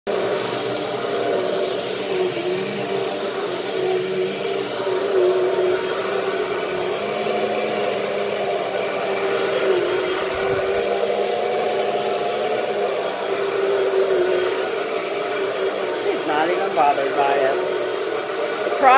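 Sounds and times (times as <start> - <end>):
vacuum cleaner running: 0.1 - 18.9.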